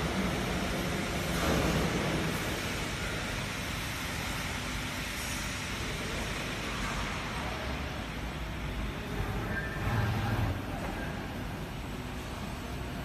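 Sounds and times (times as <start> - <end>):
factory machinery hiss and rumble: 0.0 - 13.0.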